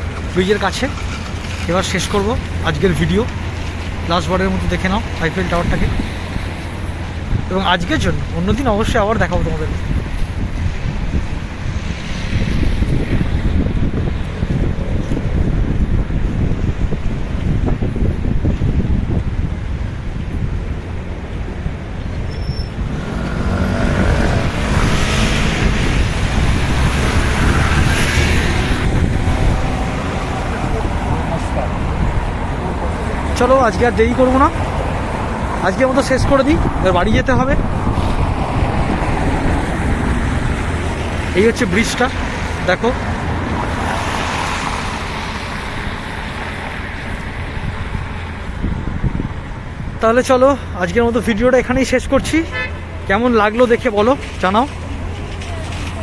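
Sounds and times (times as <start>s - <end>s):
passing vehicles hissing: 0.0s - 56.0s
wind on microphone: 0.9s - 50.0s.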